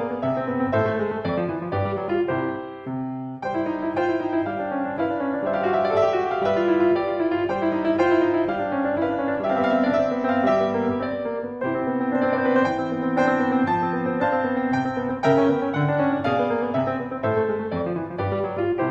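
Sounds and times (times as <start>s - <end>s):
piano music: 0.0s - 18.9s.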